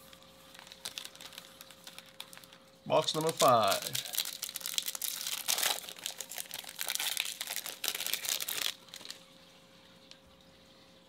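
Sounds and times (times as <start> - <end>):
wrapper crinkling as torn open: 0.0 - 9.2.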